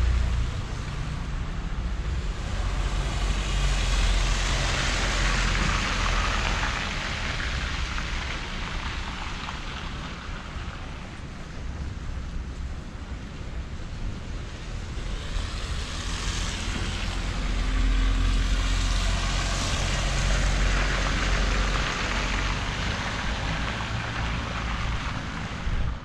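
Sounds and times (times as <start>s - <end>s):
tyres hissing on wet road: 0.0s - 26.0s
vehicle engine rumble: 0.0s - 26.0s.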